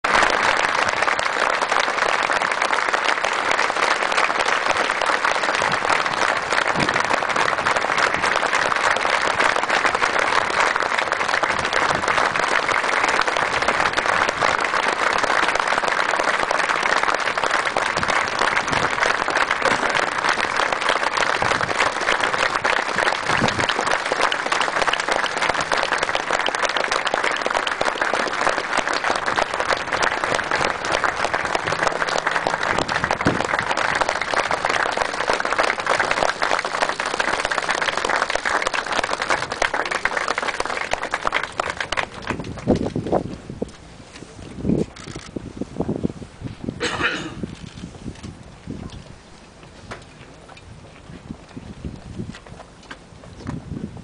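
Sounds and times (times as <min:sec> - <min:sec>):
crowd applauding: 0:00.0 - 0:43.3.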